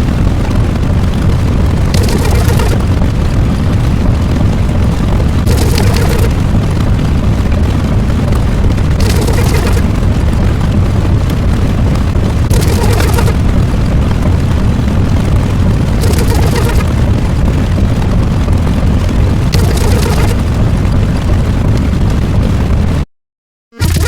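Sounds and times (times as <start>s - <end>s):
low rumbling: 0.0s - 23.0s.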